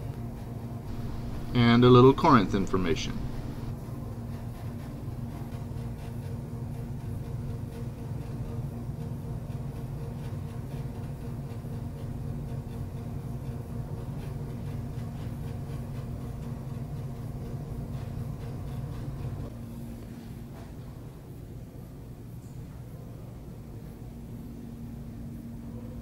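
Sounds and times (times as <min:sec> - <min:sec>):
low indoor hum: 0:00.0 - 0:26.0.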